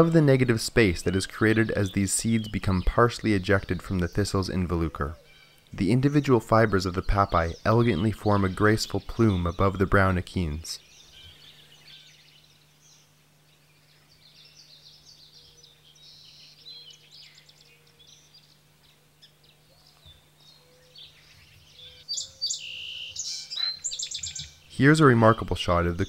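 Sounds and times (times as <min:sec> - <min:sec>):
birds chirping and trilling: 0:00.0 - 0:26.0
faint low hum: 0:00.0 - 0:26.0.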